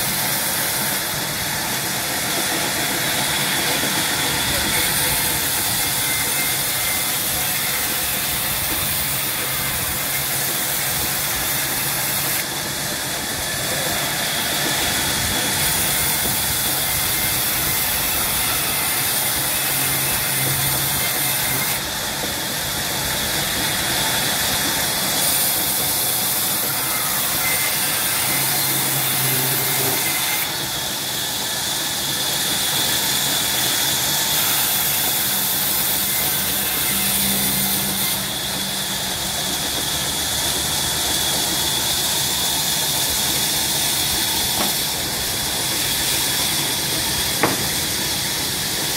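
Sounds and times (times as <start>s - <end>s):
band saw cutting wood: 0.0s - 48.9s.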